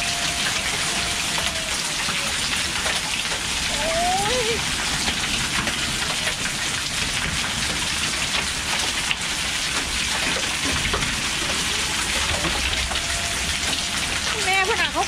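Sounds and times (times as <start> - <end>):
heavy rain and hail on concrete: 0.0 - 15.0.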